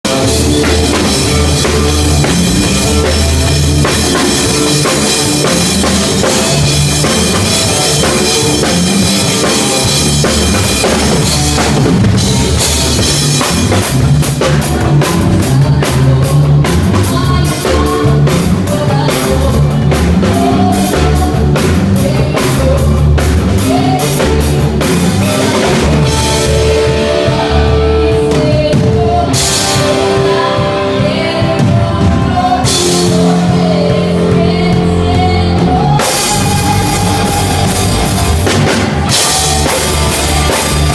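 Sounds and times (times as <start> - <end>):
rock band playing: 0.0 - 40.9.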